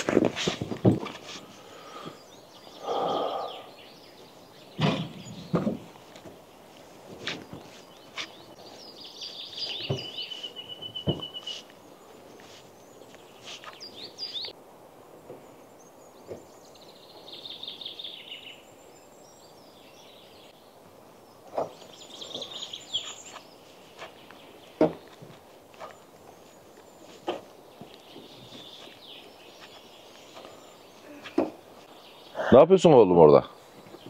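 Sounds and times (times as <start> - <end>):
songbirds singing: 0.2 - 34.0.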